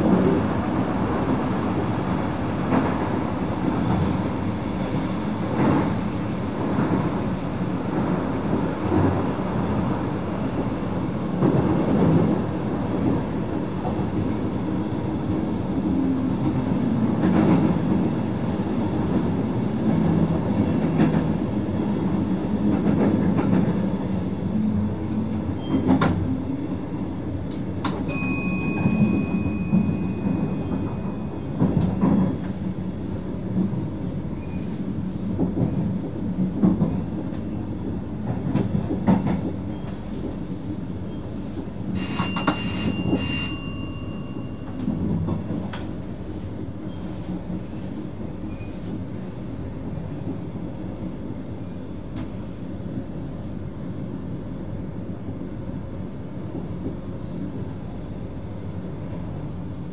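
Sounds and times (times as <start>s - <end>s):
electric train rumble: 0.0s - 59.9s.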